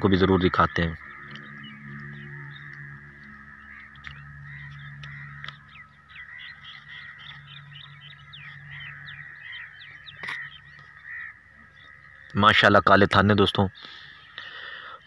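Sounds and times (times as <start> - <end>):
low steady hum: 0.0 - 12.3
small birds chirping: 0.0 - 15.0.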